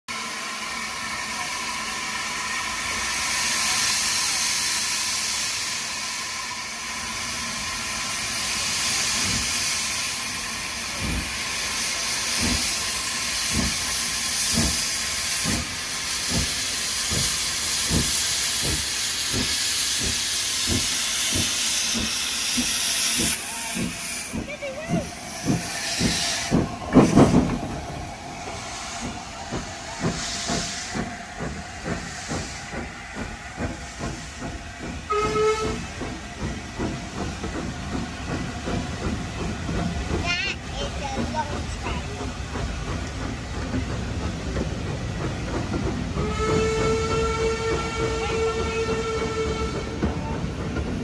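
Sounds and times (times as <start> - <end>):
steam hissing: 0.1 - 51.0
steam locomotive exhaust chuffs: 0.1 - 51.0.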